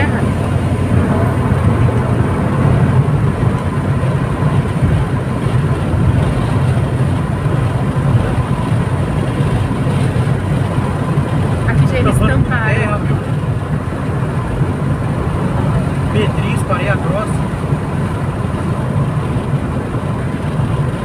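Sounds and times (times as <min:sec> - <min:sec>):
car engine running: 0:00.0 - 0:21.0
tyres on asphalt: 0:00.0 - 0:21.0.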